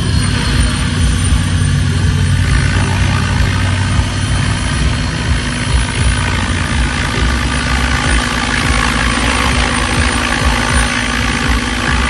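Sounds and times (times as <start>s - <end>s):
helicopter rotor blades chopping: 0.0s - 12.0s
simulated turbine whine: 0.0s - 12.0s.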